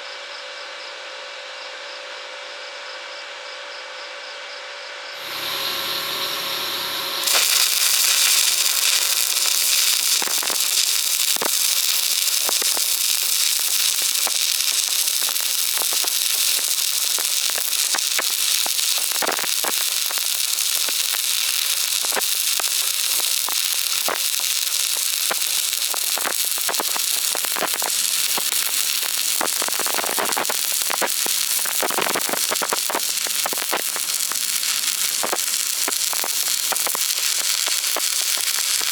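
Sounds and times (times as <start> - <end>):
arc welding crackling hiss: 5.2 - 38.9.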